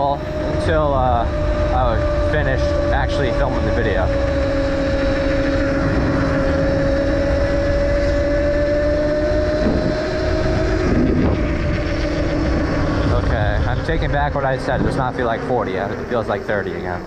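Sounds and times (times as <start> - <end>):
electric motor whining: 0.0 - 17.0
wind rumble on microphone: 0.0 - 17.0.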